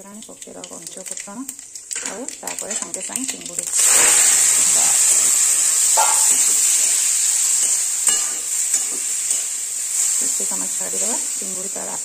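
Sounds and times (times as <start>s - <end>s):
prawns sizzling in hot oil: 0.0s - 12.0s.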